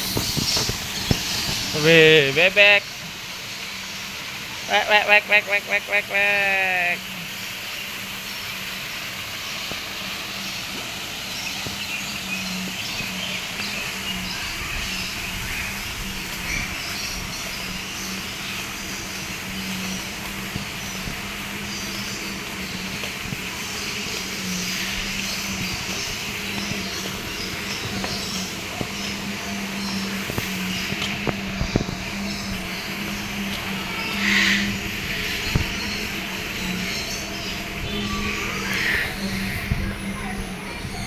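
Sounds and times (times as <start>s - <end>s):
low mechanical hum: 0.0s - 41.0s
outdoor background noise: 0.0s - 41.0s.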